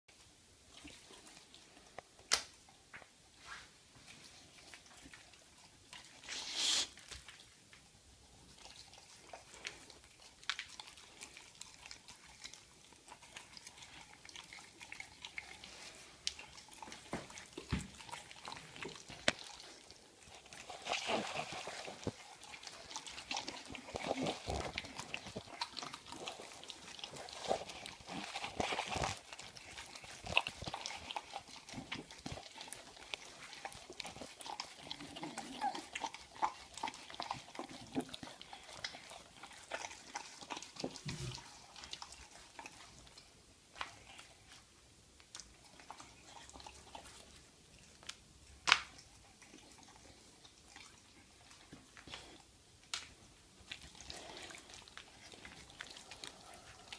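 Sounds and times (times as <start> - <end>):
dog chewing and crunching: 4.0 - 56.9.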